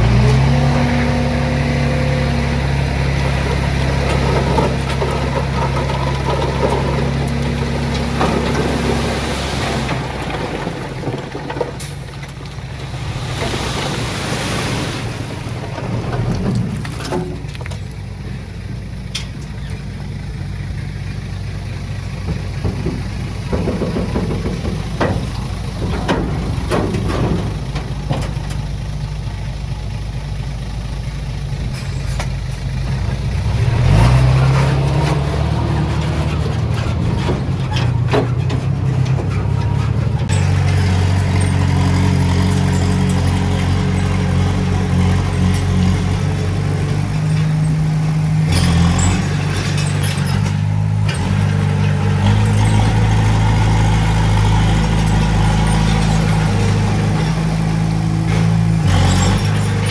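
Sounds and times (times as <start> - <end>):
heavy diesel engine under load: 0.0 - 59.9
metallic clanks and knocks: 2.0 - 13.8, 15.7 - 18.2, 19.0 - 20.9, 21.6 - 29.7, 31.7 - 59.9.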